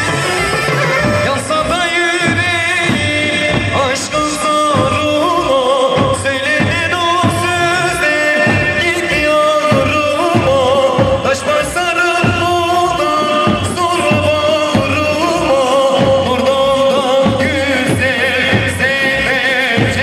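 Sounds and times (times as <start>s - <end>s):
steady drum beat: 0.0s - 20.0s
person singing: 1.0s - 20.0s.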